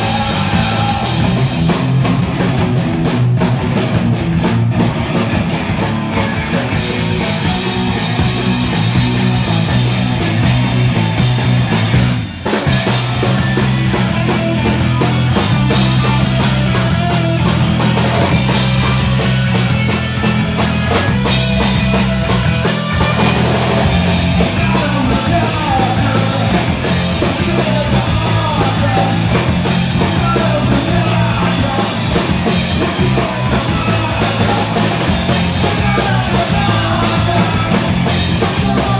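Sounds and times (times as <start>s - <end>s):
pounding drum kit: 0.0s - 38.9s
punk rock band playing: 0.0s - 38.9s.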